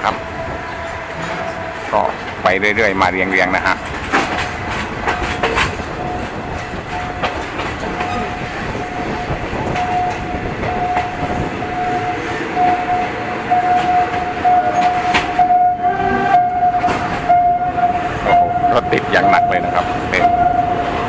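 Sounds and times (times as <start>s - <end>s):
level crossing warning ringing: 0.0s - 21.0s
train wheel and track rumble: 0.0s - 21.0s.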